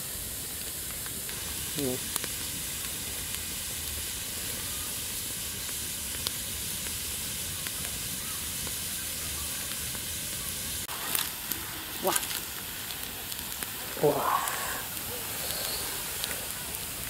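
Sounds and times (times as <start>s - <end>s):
fire crackles: 0.0s - 17.0s
liquid boiling with sizzling hiss: 0.0s - 17.0s.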